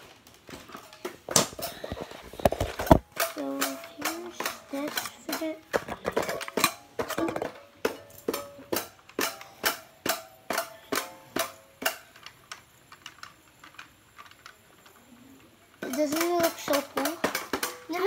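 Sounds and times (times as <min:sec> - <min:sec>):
fidget toy clicking: 0:01.6 - 0:18.0.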